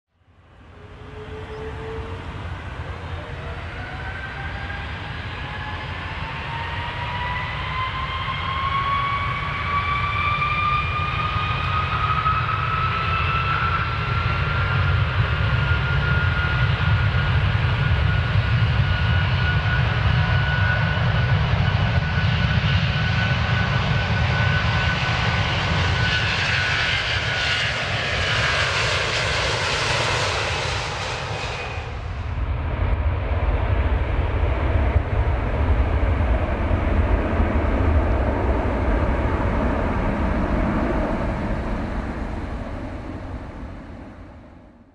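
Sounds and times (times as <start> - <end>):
jet engine whine: 0.2 - 44.9.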